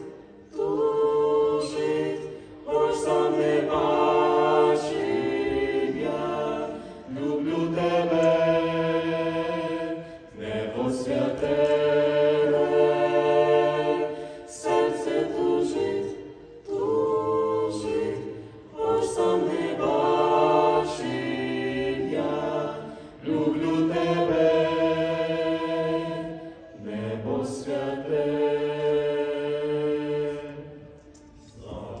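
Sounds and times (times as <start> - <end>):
vocal quartet singing in harmony: 0.0 - 32.0.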